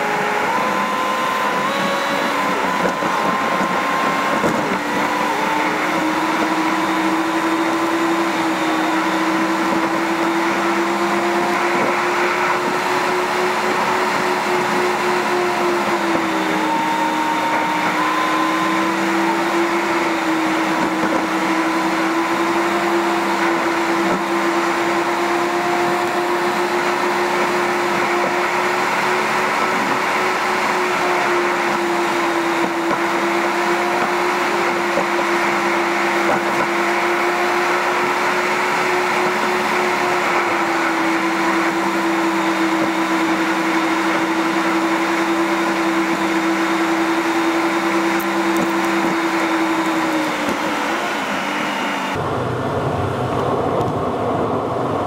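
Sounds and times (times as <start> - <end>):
car engine hum: 0.0 - 55.0
road noise: 0.0 - 55.0.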